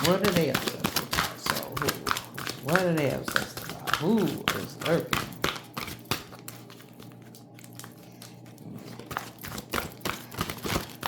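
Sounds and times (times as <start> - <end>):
cards shuffling with light clicks: 0.0 - 11.0.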